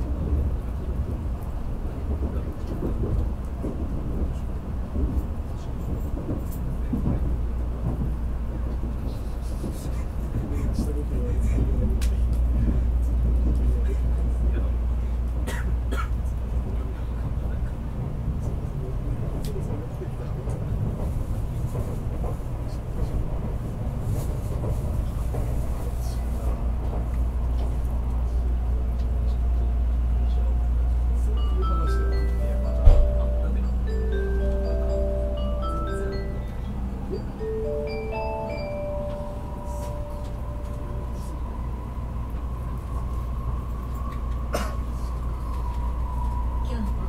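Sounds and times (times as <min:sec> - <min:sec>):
train rumble and hiss inside carriage: 0:00.0 - 0:47.0.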